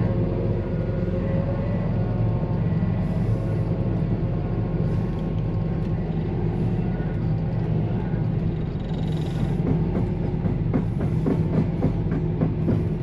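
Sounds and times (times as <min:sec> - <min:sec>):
combine harvester engine humming: 0:00.0 - 0:13.0.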